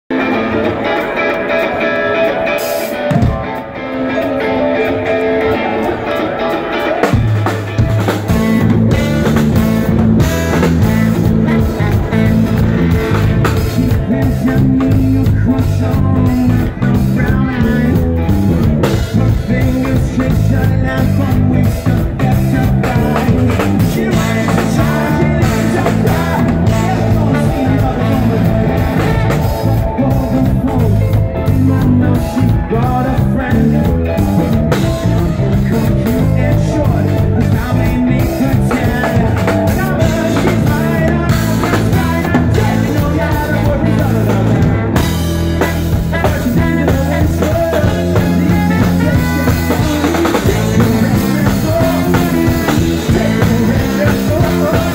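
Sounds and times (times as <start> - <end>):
bass guitar: 0.0 - 54.9
electric guitars: 0.0 - 54.9
drum kit: 0.1 - 54.9
man singing into microphone: 8.2 - 54.9.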